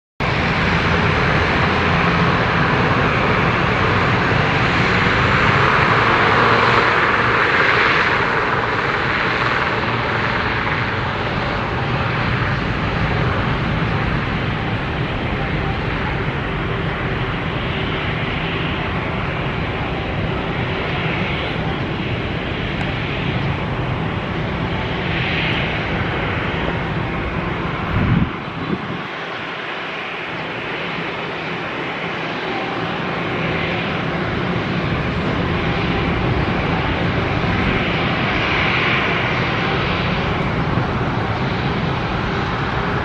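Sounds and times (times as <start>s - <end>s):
low propeller hum: 0.2s - 43.0s
turboprop engines roaring: 0.2s - 43.0s.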